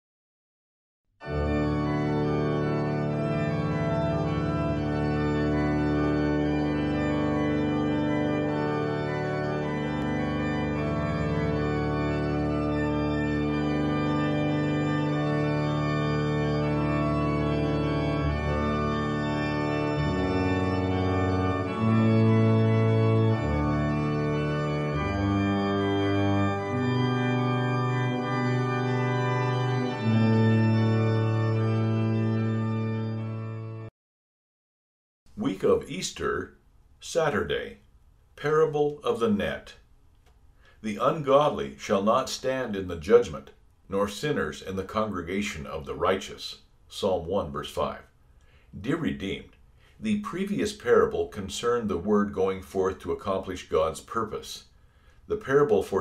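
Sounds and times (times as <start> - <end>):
organ chords: 1.2 - 33.9, 35.3 - 37.7, 38.4 - 56.0.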